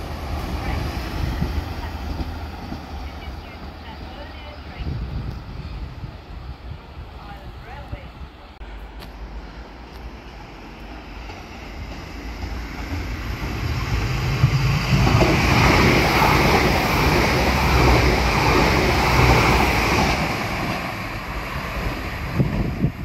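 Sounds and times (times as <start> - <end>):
diesel train passing: 0.0 - 23.0.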